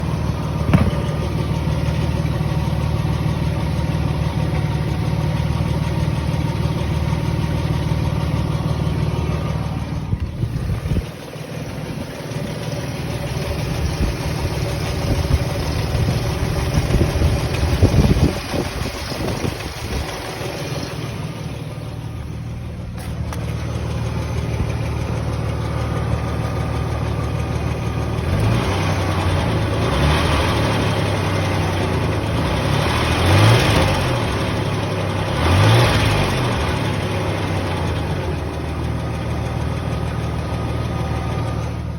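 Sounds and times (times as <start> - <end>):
car engine running with ticking: 0.0 - 41.9.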